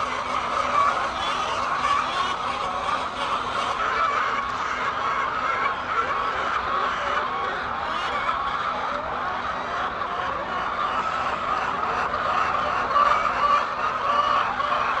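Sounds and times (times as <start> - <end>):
flock of chickens clucking: 0.0 - 15.0.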